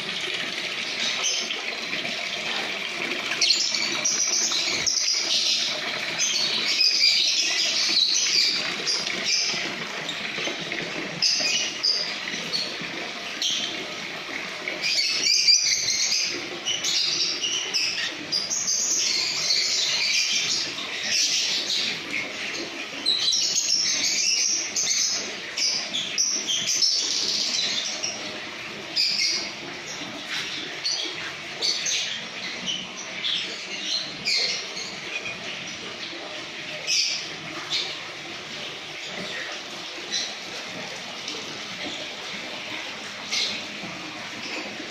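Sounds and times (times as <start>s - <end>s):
lovebirds chattering and chirping: 0.0s - 44.9s.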